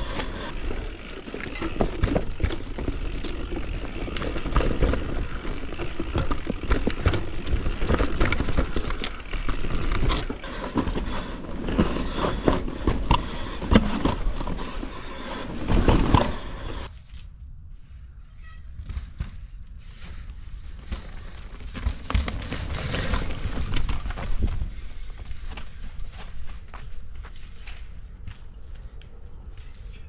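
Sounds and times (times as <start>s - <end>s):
bike knocking and rattling: 0.0s - 16.9s, 18.8s - 28.5s
bike tyres on dirt and stone: 0.0s - 30.0s.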